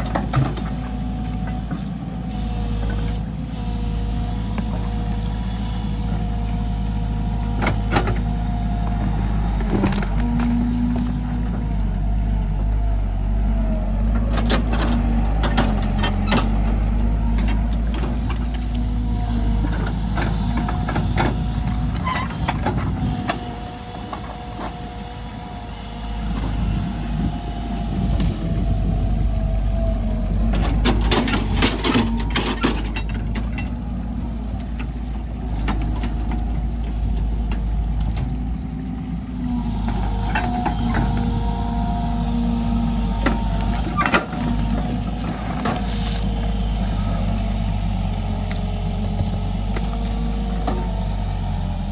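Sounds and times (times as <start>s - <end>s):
hydraulic whine: 0.0s - 34.3s, 35.3s - 51.9s
excavator diesel engine: 0.0s - 51.9s.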